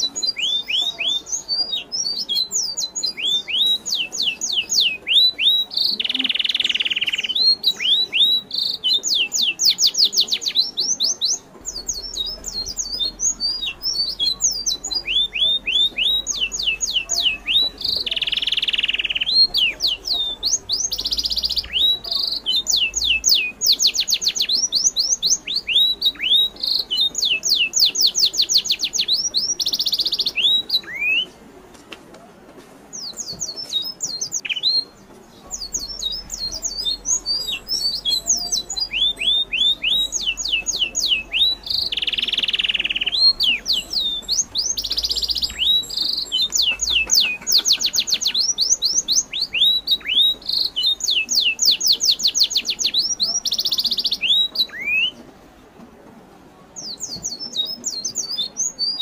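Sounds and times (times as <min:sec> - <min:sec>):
birds chirping: 0:00.0 - 0:31.6, 0:32.8 - 0:55.6, 0:56.6 - 0:59.0.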